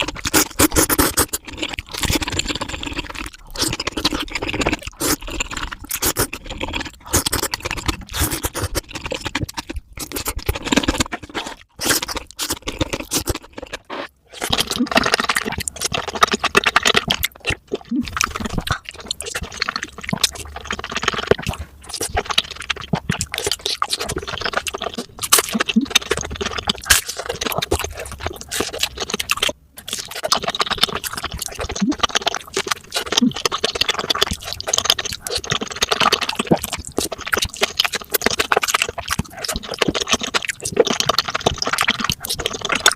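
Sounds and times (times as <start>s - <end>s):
crunching and chewing crispy food: 0.0s - 42.9s.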